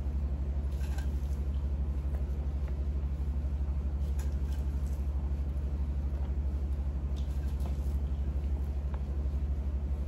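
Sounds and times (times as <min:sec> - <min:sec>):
low throbbing motor hum: 0:00.0 - 0:10.0.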